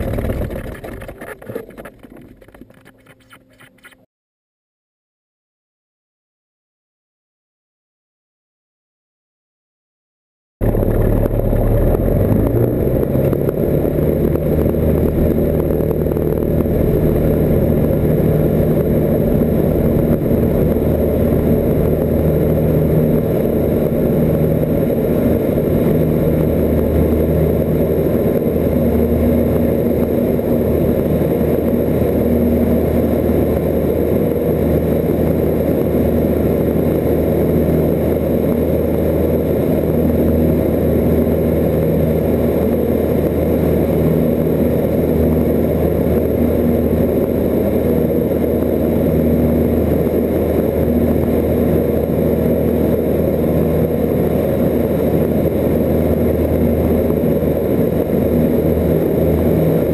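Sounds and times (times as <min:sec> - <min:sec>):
propeller plane engine at full power: 0:00.0 - 0:04.0, 0:10.6 - 0:59.9.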